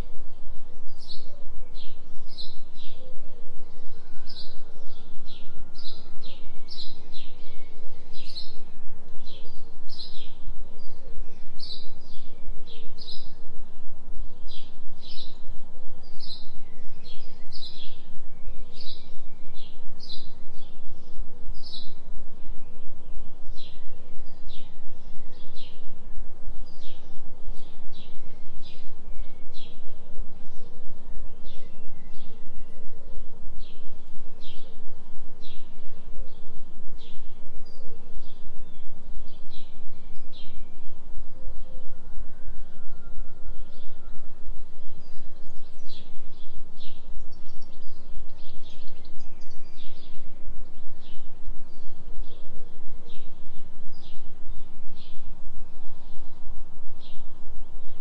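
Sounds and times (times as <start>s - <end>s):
steady low tone hum: 0.0s - 58.0s.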